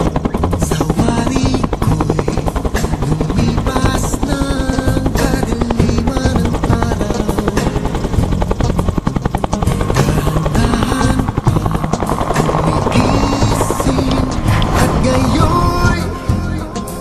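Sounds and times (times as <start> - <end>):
helicopter rotor chopping: 0.0 - 17.0
music: 0.0 - 17.0.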